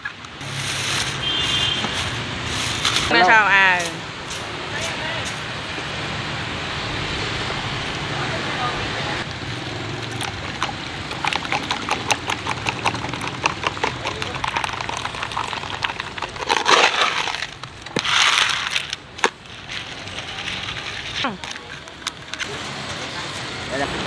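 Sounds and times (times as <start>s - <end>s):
rushing noises: 0.3s - 24.0s.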